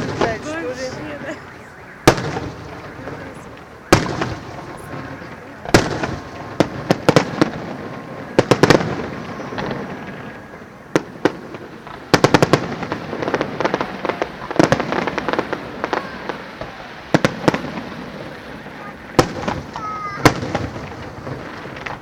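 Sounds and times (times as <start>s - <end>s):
rumbling crackle of fireworks: 0.0s - 22.0s.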